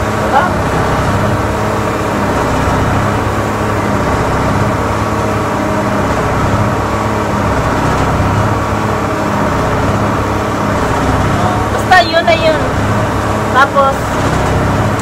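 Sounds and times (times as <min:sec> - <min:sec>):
steady engine drone: 0:00.0 - 0:15.0.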